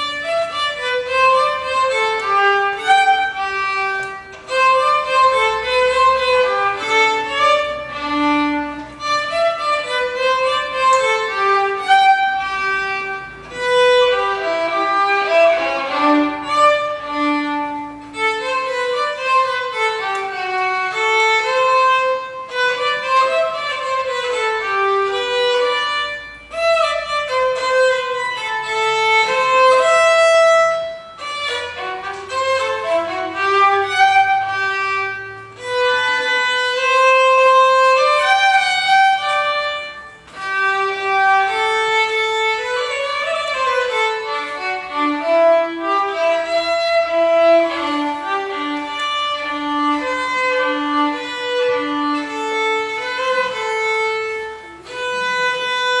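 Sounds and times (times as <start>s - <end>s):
solo violin melody: 0.0s - 56.0s.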